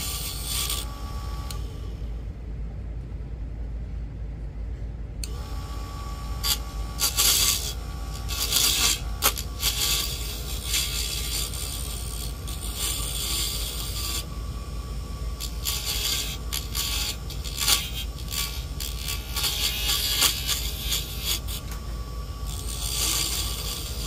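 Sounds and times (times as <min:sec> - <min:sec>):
tool scraping spinning wood: 0:00.0 - 0:01.8, 0:05.3 - 0:24.0
lathe motor hum: 0:00.0 - 0:02.1, 0:05.2 - 0:24.0.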